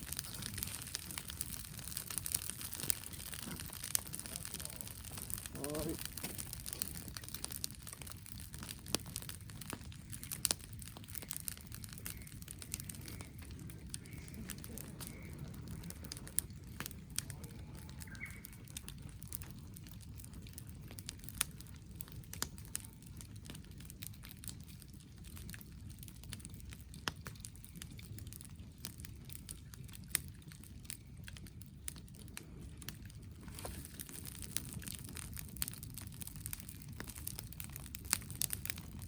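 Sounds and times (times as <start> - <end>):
fire pops and snaps: 0.0 - 39.0
wood fire crackling: 0.0 - 39.0.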